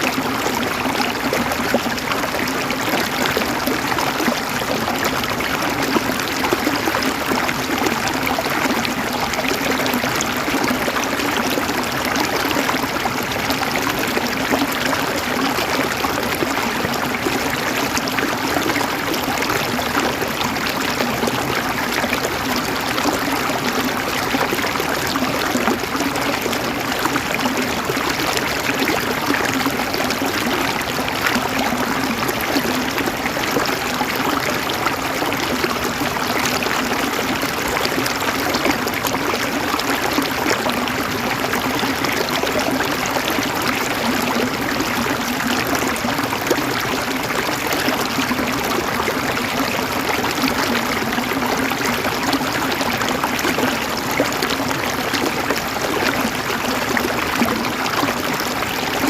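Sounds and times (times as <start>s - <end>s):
river water flowing over stones: 0.0s - 59.0s.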